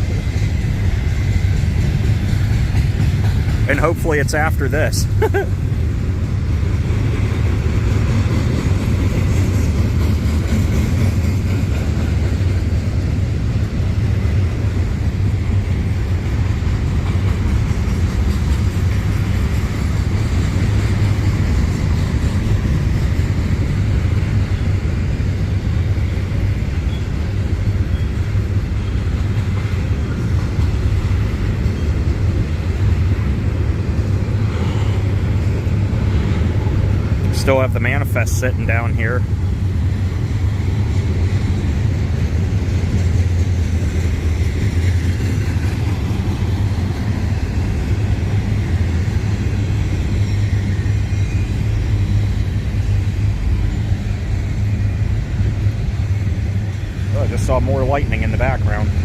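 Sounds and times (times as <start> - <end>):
freight train rumbling on rails: 0.0 - 59.0.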